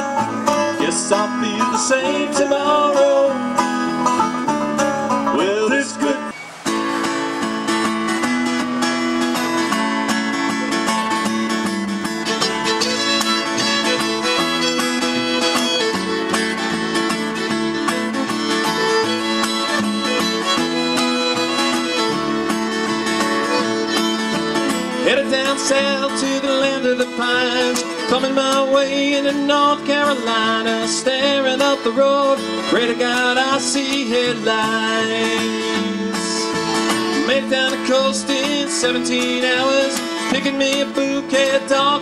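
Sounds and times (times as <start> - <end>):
acoustic guitar: 0.0 - 42.0
fiddle playing lead: 0.0 - 42.0
upright bass: 0.0 - 42.0.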